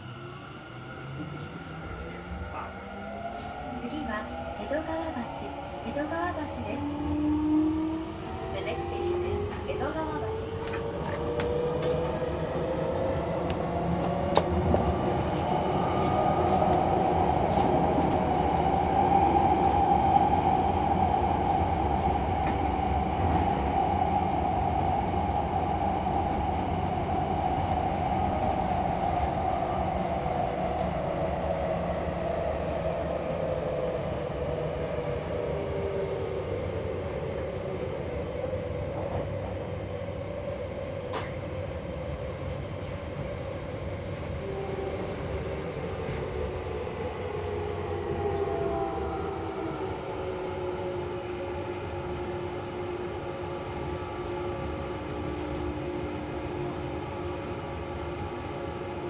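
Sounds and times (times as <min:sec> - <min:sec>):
train rumble from inside car: 0:01.1 - 0:19.6, 0:24.8 - 0:59.0.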